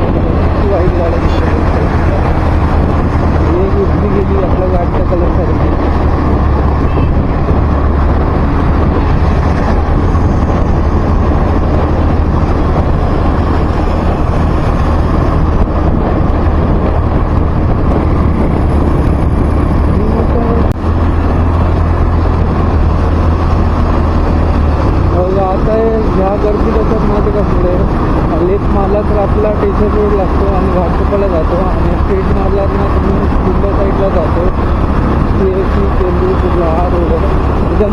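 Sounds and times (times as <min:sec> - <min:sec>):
road and wind noise: 0:00.0 - 0:37.9.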